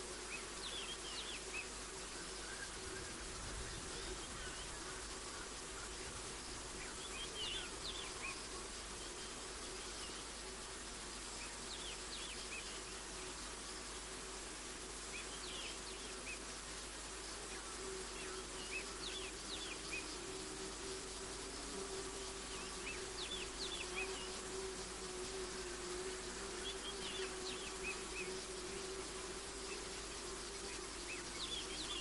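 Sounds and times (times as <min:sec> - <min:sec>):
insects humming: 0:00.0 - 0:32.0.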